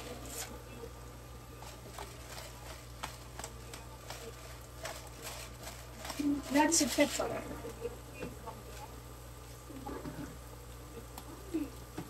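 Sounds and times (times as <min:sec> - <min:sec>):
food sauteing faintly in a frying pan: 0:00.0 - 0:12.0.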